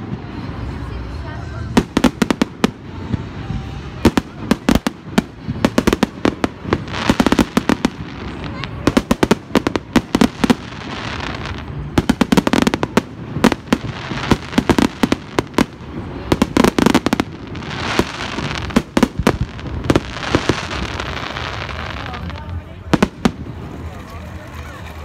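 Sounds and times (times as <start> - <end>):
firework bangs: 0.0 - 24.1
firework hiss: 1.7 - 23.8.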